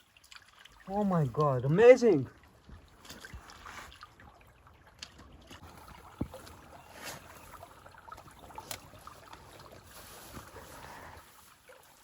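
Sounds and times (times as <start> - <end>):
shallow stream running: 0.0 - 12.0.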